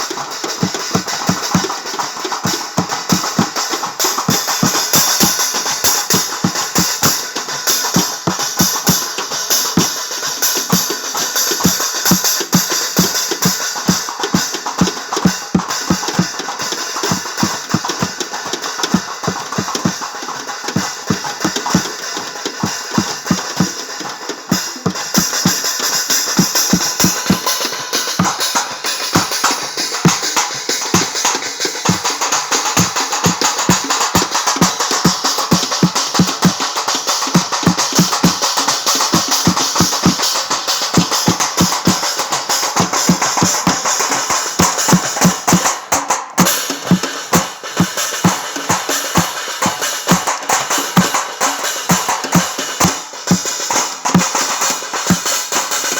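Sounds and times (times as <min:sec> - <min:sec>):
drums beaten in fast rhythm: 0:00.0 - 0:55.9
jingling metal percussion: 0:00.0 - 0:55.9.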